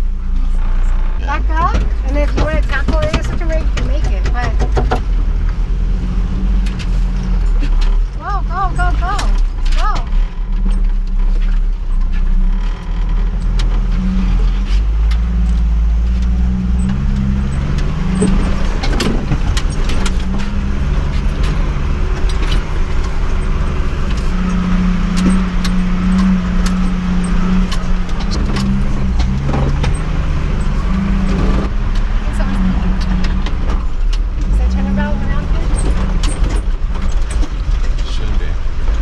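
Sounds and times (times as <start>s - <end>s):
engine pulling under load: 0.0s - 39.0s
loose things rattling in cab: 1.2s - 5.6s, 6.5s - 39.0s.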